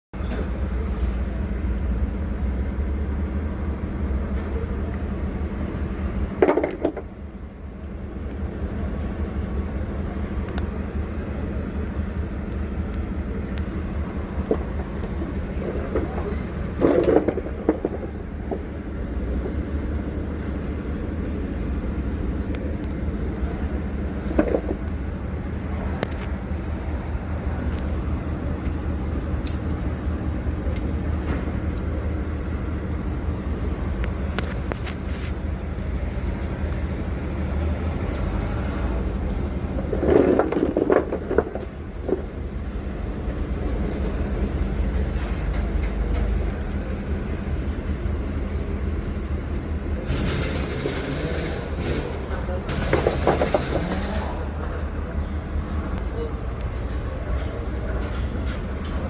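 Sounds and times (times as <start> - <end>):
bus diesel engine rumbling: 0.1 - 59.0.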